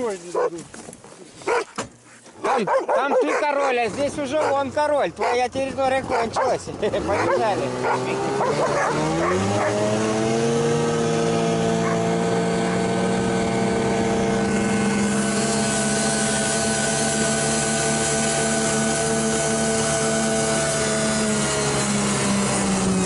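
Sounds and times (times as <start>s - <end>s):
snowmobile engine: 3.7s - 23.0s.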